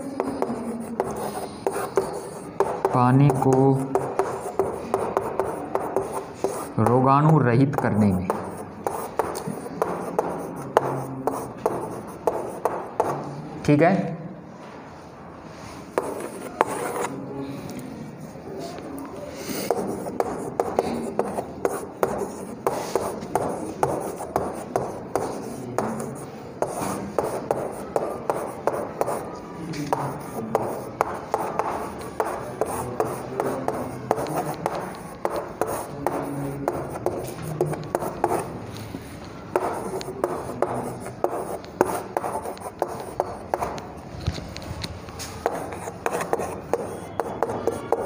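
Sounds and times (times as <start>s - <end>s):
chalk scratching on chalkboard: 0.0s - 13.4s, 15.5s - 17.2s, 18.6s - 48.0s.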